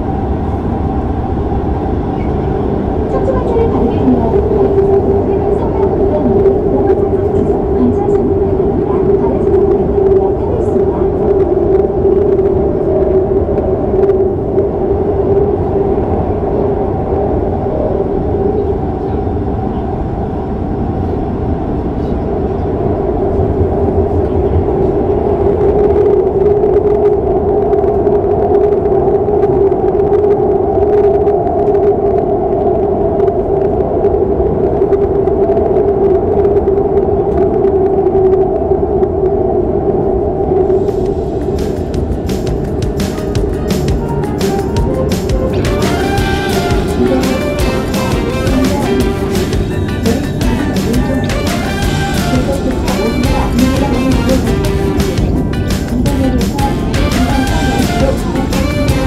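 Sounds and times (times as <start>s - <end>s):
subway train rumbling through tunnel: 0.0s - 59.0s.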